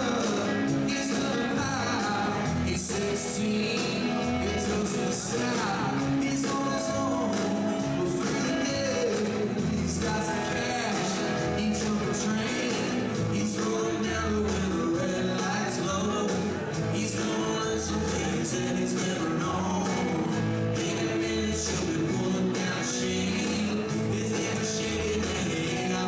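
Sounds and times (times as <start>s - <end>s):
man singing lead: 0.0s - 26.0s
rock band with guitar: 0.0s - 26.0s.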